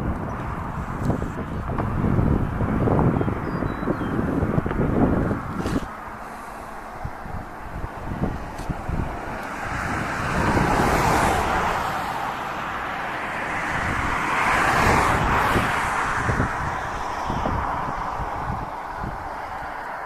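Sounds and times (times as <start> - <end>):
vehicles passing: 0.0 - 20.0
wind buffeting microphone: 0.0 - 20.0.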